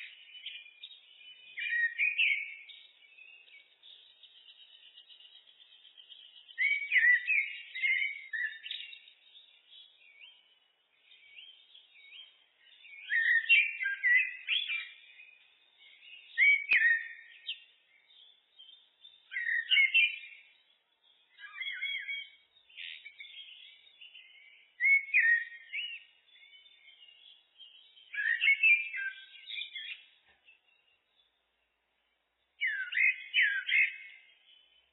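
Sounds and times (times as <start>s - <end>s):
blackbird singing: 0.0s - 34.9s
faint bird twittering: 0.0s - 34.9s.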